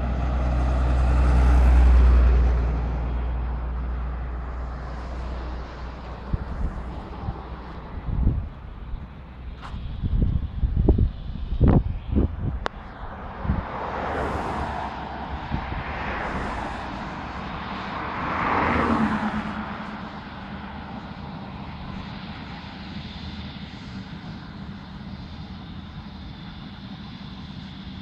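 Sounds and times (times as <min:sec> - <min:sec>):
cars passing on road: 0:00.0 - 0:28.0
distant jet engines humming: 0:00.0 - 0:28.0.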